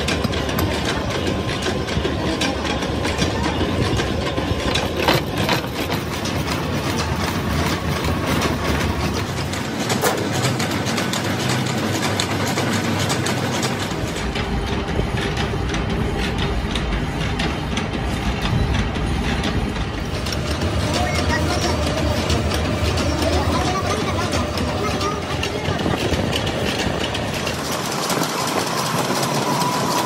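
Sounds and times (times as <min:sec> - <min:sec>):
milling machine cutting steel: 0:00.0 - 0:30.0.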